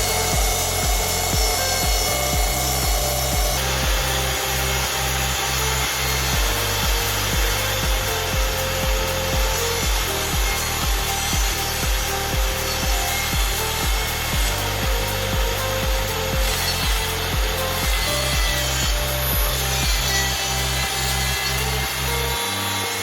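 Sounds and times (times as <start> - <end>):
background music with bass beat: 0.0 - 23.0
power saw cutting wood: 0.0 - 23.0.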